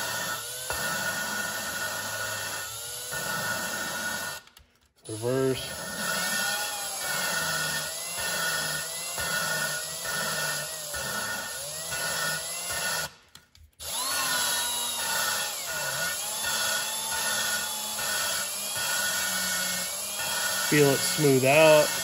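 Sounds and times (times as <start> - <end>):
drill whine: 0.0 - 4.5, 5.1 - 13.2, 13.8 - 22.0
valve grinding gritty rasp: 0.0 - 22.0.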